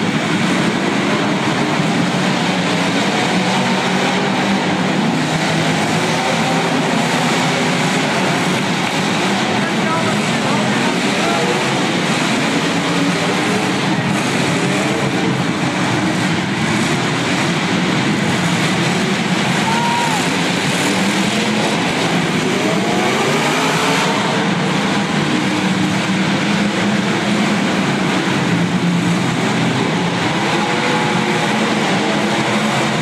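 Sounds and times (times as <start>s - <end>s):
many car engines revving: 0.0s - 33.0s.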